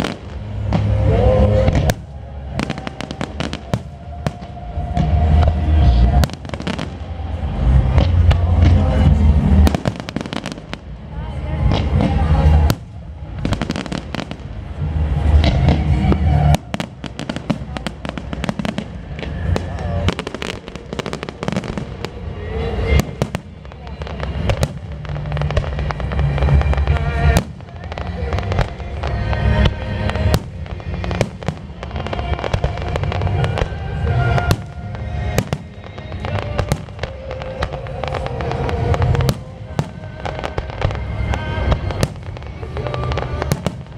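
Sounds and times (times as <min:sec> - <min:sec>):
fireworks cracking: 0:00.0 - 0:43.9
music playing: 0:00.0 - 0:43.9.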